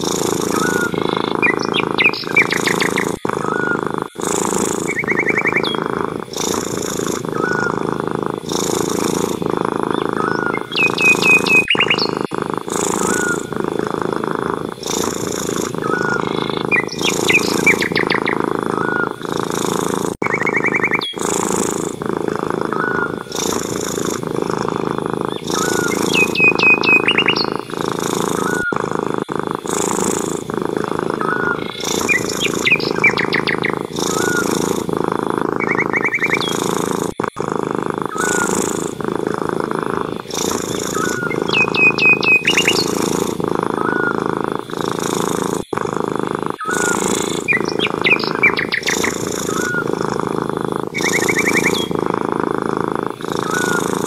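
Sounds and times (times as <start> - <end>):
cat purring: 0.0 - 54.0
small birds chirping and trilling: 0.0 - 54.0.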